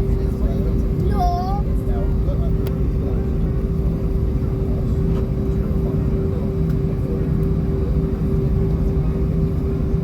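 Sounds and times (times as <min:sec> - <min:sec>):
airliner engines droning in cabin: 0:00.0 - 0:10.0.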